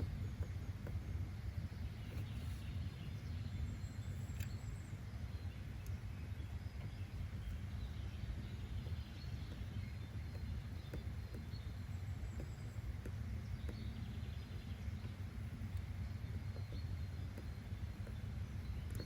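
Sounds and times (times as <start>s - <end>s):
low-rumbling nature ambience: 0.0s - 19.0s.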